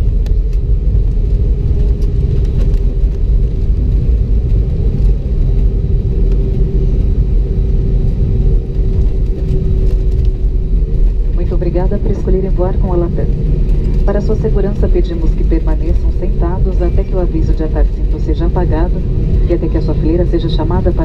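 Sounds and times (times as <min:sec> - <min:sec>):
low rumble of engines: 0:00.0 - 0:21.0
steady cabin hum: 0:00.0 - 0:21.0.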